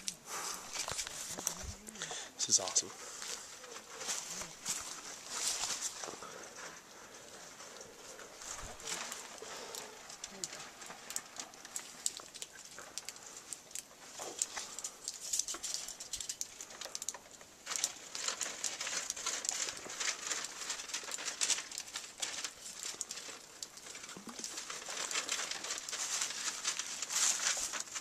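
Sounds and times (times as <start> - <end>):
soil and stones rattling through mesh: 0.0 - 28.0.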